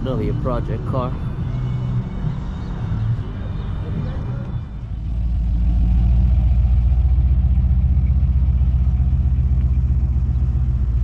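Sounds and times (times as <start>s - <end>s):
pickup truck engine rumbling: 0.0s - 11.0s.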